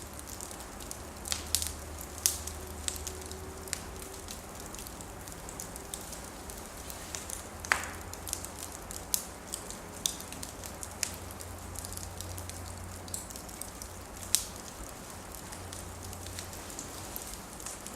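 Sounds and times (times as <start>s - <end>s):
fire hiss: 0.0s - 17.9s
wood fire crackling and popping: 0.0s - 17.9s.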